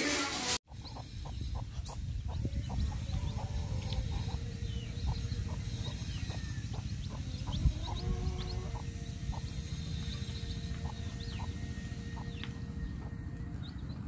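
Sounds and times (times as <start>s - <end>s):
hen clucking: 0.7s - 13.2s
chicks peeping: 0.7s - 14.0s
steady low rumble: 0.7s - 14.0s.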